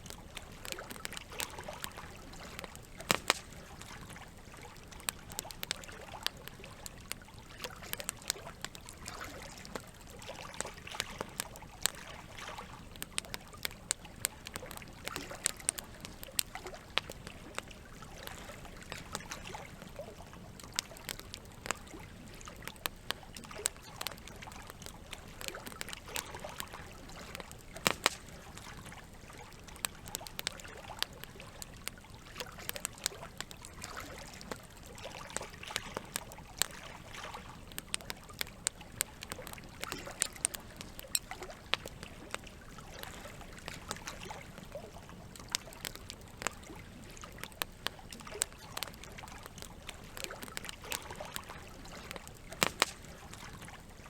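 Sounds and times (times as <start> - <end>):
campfire wood crackling: 0.0 - 54.0
trickle of running water: 0.0 - 54.0.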